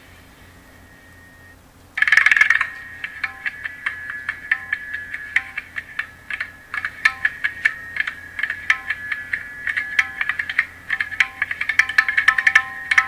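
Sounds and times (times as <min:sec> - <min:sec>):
held high tone: 0:00.4 - 0:13.0
clicking percussion: 0:02.0 - 0:13.0.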